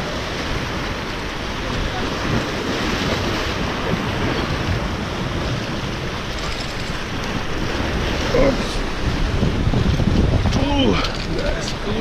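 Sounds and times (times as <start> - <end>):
surf breaking on rocky shore: 0.0 - 12.0
wind buffeting microphone: 0.0 - 12.0.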